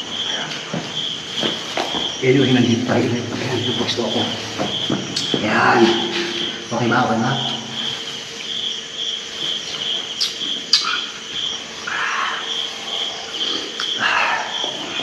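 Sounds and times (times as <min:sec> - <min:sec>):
insects chirping in pulsing trill: 0:00.0 - 0:15.0.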